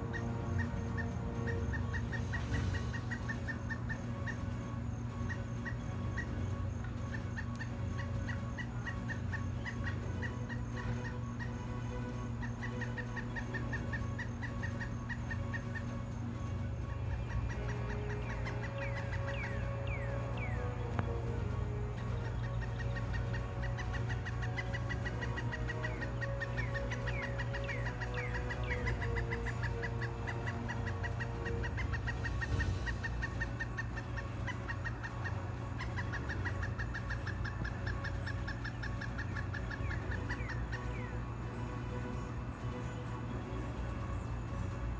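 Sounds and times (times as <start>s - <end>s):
steady low hum: 0.0s - 44.9s
woodpecker calling: 0.0s - 44.9s.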